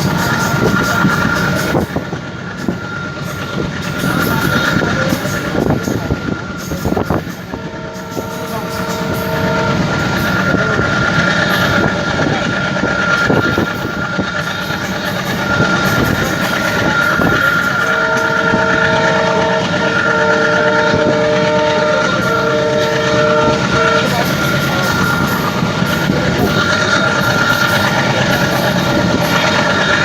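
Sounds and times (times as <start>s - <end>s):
diesel locomotive chugging: 0.0s - 30.0s
locomotive horn blasts: 0.0s - 30.0s
steady high whine: 0.0s - 30.0s.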